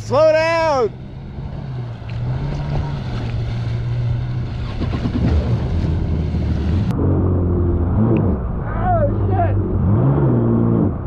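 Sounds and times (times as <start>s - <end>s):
rushing wind and water: 0.0s - 10.8s
watercraft engine drone: 0.0s - 11.0s.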